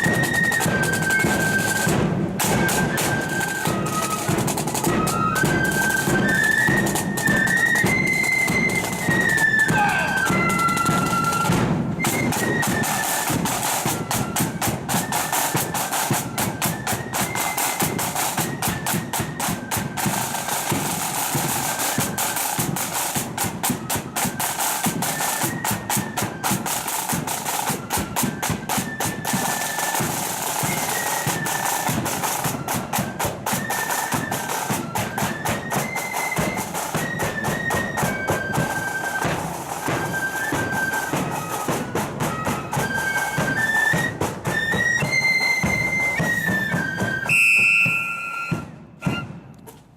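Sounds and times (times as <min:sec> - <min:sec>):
shrill flutes playing melody: 0:00.0 - 0:49.9
snare drum rolls: 0:00.0 - 0:49.9.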